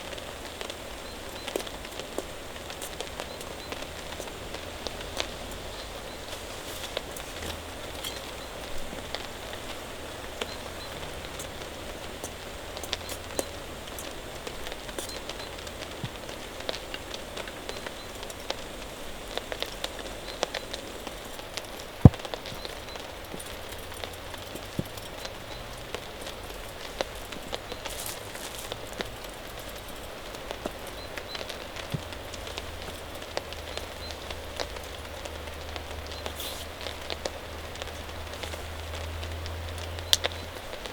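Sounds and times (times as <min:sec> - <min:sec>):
steady rain: 0:00.0 - 0:40.9
drops ticking on a surface: 0:00.1 - 0:40.9.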